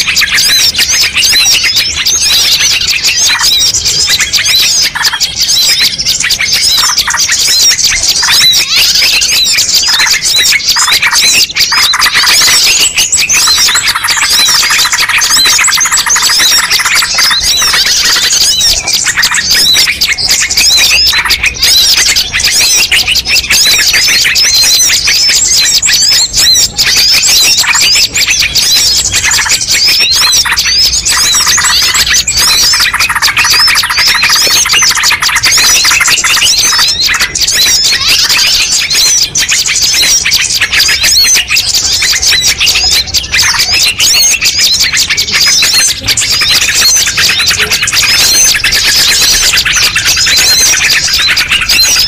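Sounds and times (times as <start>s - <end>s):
lower bird calls: 0.0s - 52.0s
songbirds chirping and trilling: 0.0s - 52.0s.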